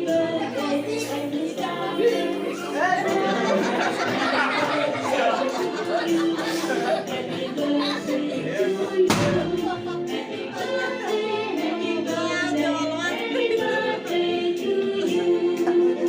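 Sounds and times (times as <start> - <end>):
song with singing voices: 0.0 - 16.0.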